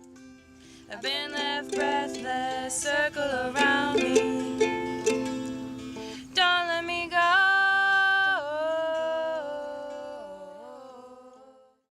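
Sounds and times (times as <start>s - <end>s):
person singing: 0.8s - 11.9s.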